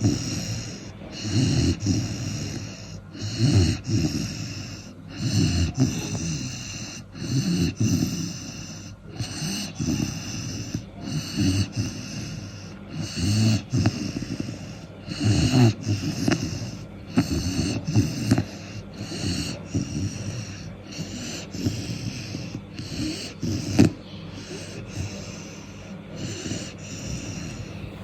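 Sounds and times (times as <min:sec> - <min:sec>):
puppy snoring: 0:00.0 - 0:28.0.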